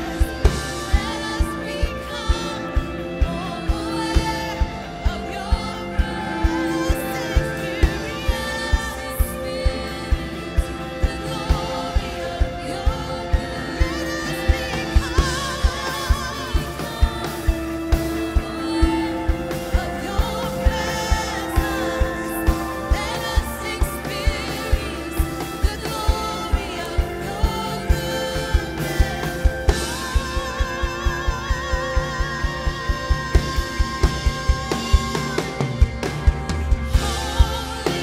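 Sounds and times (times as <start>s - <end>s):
person singing: 0.0s - 38.0s
steady drum beat: 0.0s - 38.0s
worship band playing slow song: 0.0s - 38.0s.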